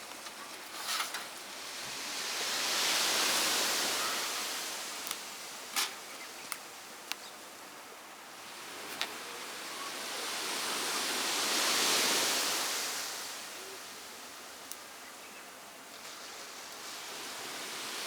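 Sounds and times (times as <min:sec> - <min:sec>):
outdoor hiss: 0:00.0 - 0:18.0.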